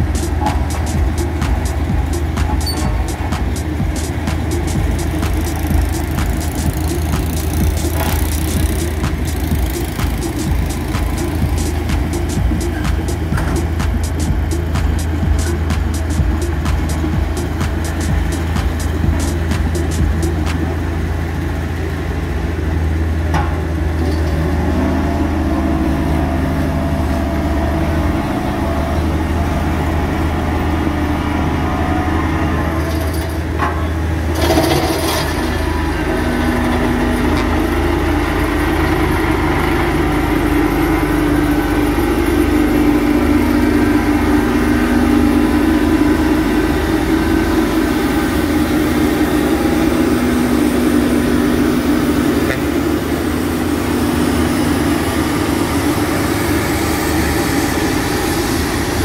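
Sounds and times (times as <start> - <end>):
diesel road roller engine humming: 0.0 - 59.0.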